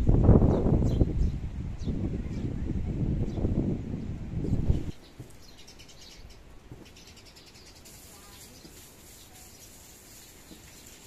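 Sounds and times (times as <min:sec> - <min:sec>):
faint birds chirping: 0:00.3 - 0:11.0.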